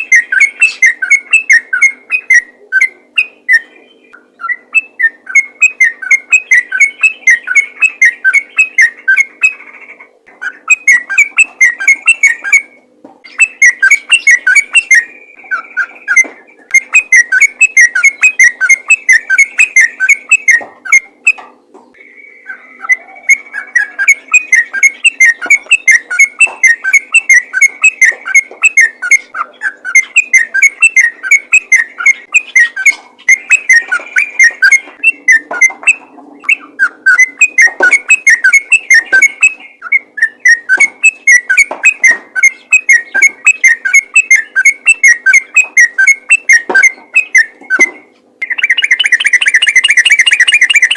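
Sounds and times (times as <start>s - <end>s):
bulbul singing whistled chirps: 0.0s - 9.8s, 10.4s - 50.9s.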